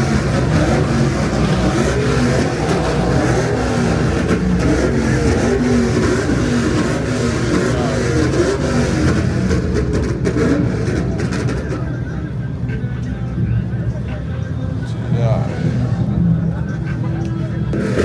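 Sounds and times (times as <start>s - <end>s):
car engine revving: 0.0s - 14.1s, 15.0s - 18.0s.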